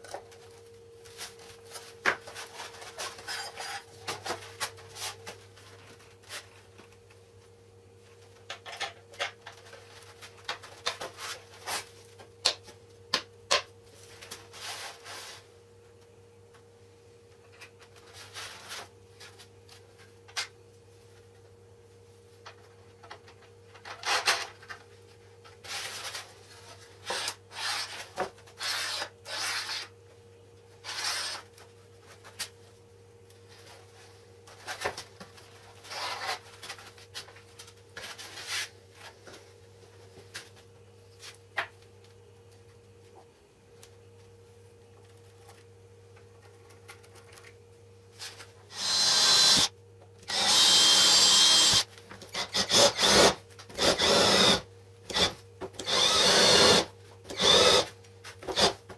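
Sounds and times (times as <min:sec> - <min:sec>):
faint hum: 0:00.0 - 0:58.9.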